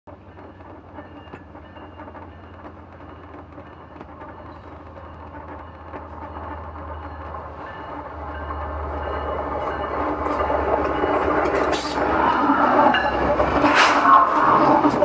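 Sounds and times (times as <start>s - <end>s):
approaching train rumble: 0.1s - 15.0s.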